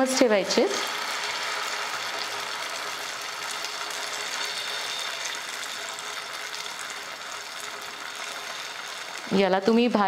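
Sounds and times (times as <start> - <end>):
batter sizzling in hot oil: 0.0 - 10.0.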